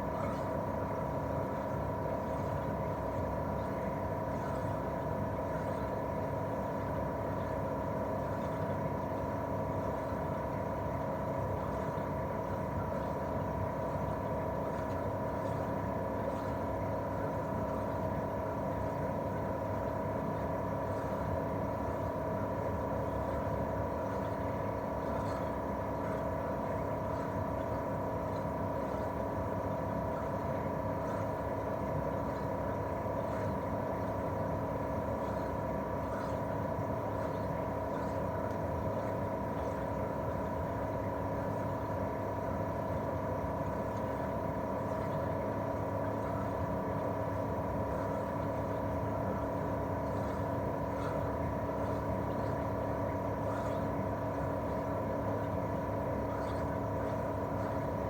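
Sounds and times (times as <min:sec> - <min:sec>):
air conditioner unit humming: 0:00.0 - 0:58.0.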